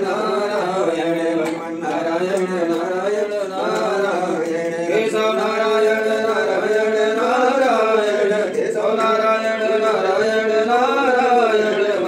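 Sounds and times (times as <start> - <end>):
voice chanting mantras: 0.0 - 12.0.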